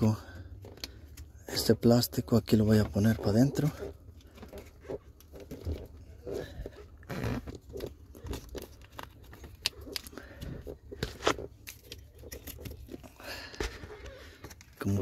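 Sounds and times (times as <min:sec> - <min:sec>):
plastic scraping and rubbing: 0:00.0 - 0:15.0.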